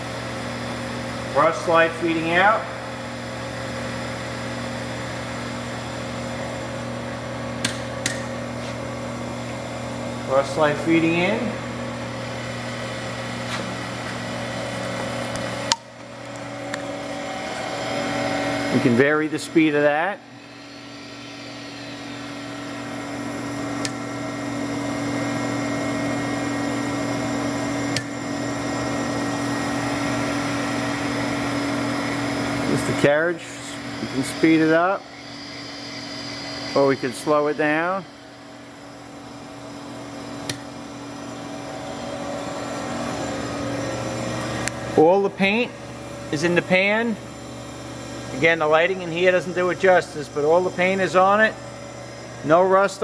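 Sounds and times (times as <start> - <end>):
lathe electric hum: 0.0 - 53.0.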